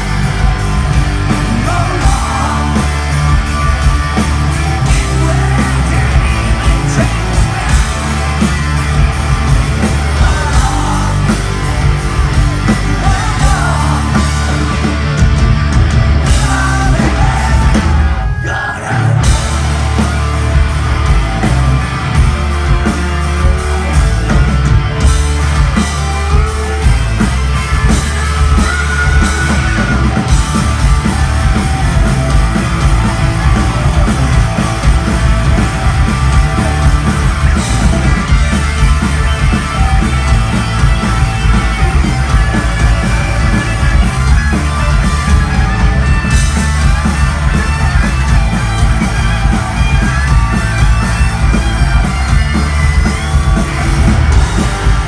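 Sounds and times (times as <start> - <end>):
bass guitar: 0.0 - 55.0
drums: 0.0 - 55.0
electric guitars: 0.0 - 55.0.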